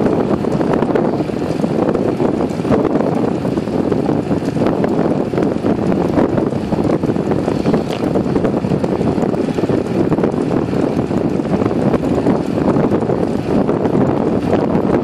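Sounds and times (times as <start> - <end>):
bicycle ticks and rattles: 0.0 - 15.0
wind buffeting microphone: 0.0 - 15.0.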